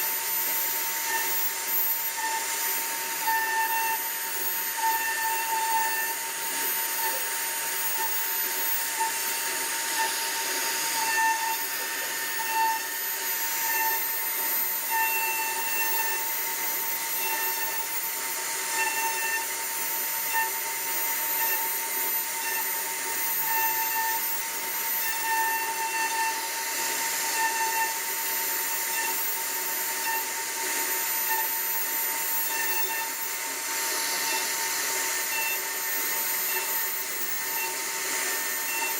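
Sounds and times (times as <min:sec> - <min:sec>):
hiss of bit cutting wood: 0:00.0 - 0:38.9
router spindle whine: 0:00.0 - 0:38.9.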